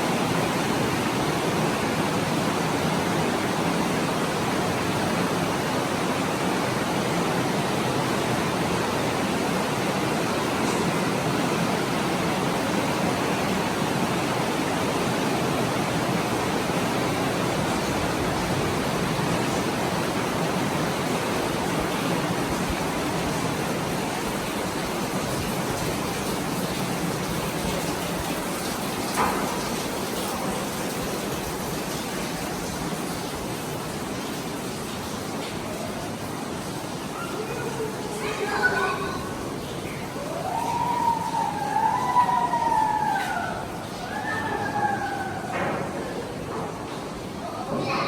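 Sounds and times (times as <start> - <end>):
water rushing in a cave: 0.0 - 48.0.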